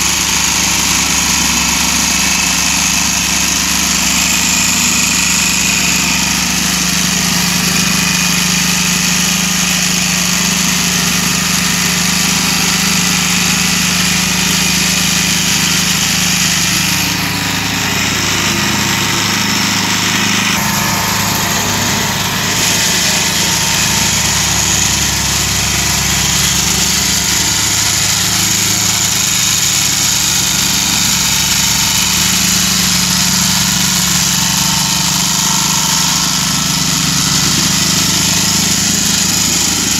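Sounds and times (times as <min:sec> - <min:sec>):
plate compactor vibrating: 0:00.0 - 0:39.9.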